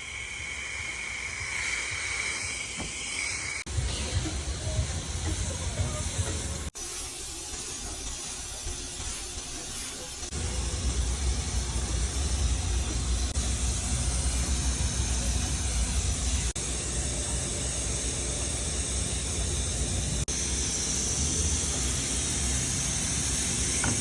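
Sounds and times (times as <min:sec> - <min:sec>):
vacuum hose rushing hiss: 0:00.0 - 0:24.0.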